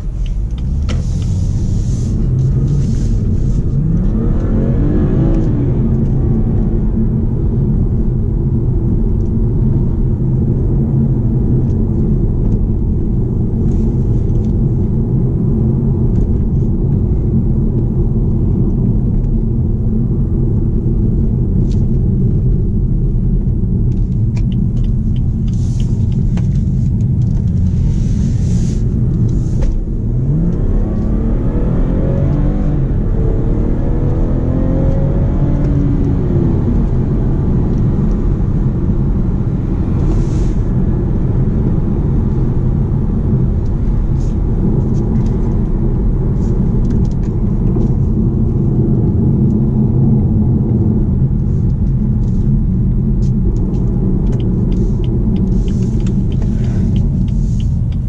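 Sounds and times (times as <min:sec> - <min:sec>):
car engine running: 0:00.0 - 0:58.0
road rumble: 0:00.0 - 0:58.0.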